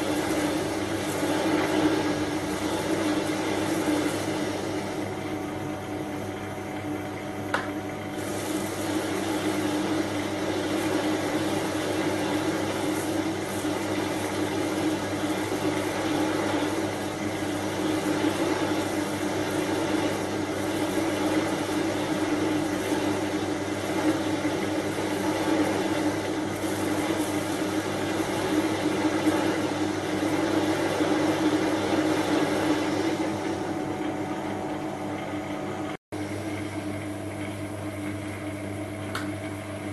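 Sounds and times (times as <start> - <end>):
lathe motor and gear hum: 0.0 - 39.9.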